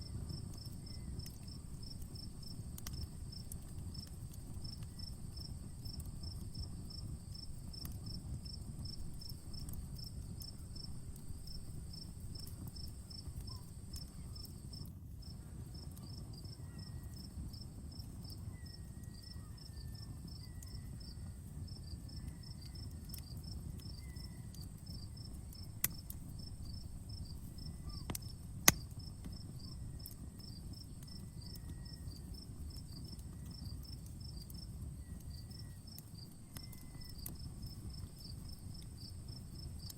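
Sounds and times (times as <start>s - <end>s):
fire popping: 0.0s - 16.4s, 20.4s - 39.9s
campfire rumble: 0.0s - 39.9s
crickets chirping: 0.0s - 39.9s.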